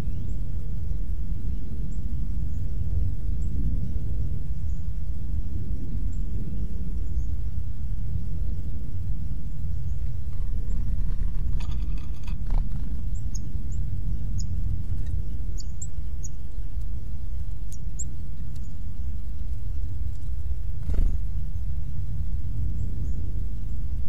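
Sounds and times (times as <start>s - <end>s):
small birds chip calls: 0.0s - 22.0s
steady low rumble: 0.0s - 24.0s.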